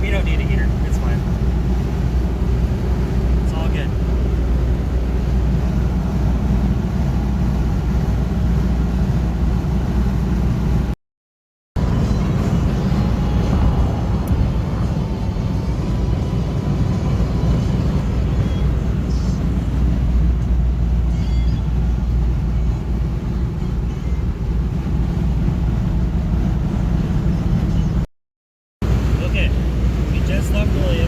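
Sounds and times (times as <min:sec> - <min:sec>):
car engine and road rumble: 0:00.0 - 0:11.0, 0:11.8 - 0:28.1, 0:28.8 - 0:31.0.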